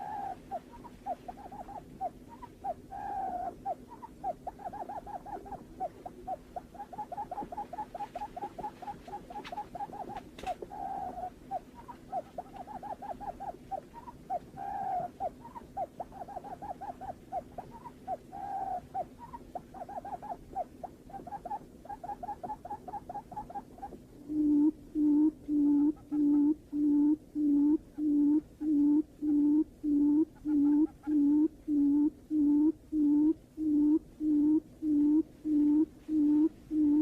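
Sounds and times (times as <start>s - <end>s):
bird hooting calls: 0.0s - 37.0s
faint steady hum: 0.0s - 37.0s.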